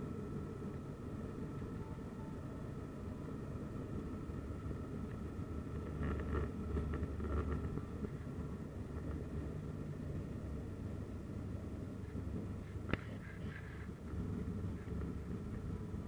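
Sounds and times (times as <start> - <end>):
faint steady whine: 0.0 - 16.0
propeller engine drone: 0.0 - 16.0.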